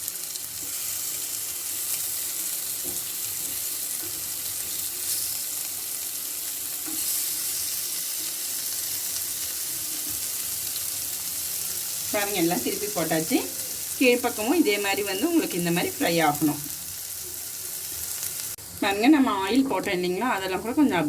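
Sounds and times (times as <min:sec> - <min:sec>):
banana slices sizzling in oil: 0:00.0 - 0:21.0.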